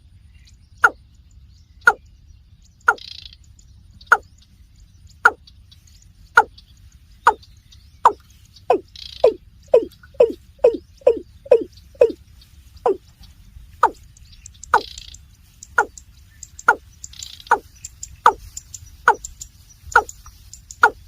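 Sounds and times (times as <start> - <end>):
rail bird calling: 0.4 - 1.0, 1.7 - 21.0.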